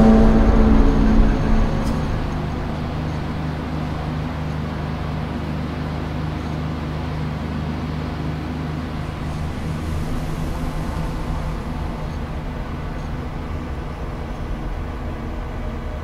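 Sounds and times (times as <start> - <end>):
low droning hum: 0.0 - 6.5, 8.8 - 16.0.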